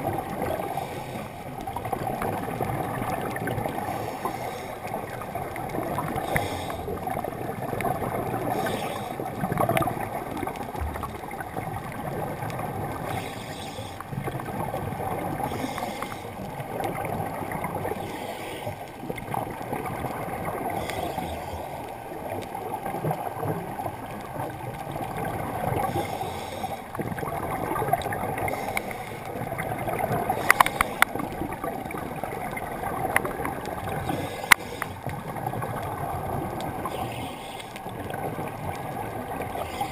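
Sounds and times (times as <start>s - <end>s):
diver breathing and bubbles: 0.0s - 39.9s
muffled underwater rumble: 0.0s - 39.9s.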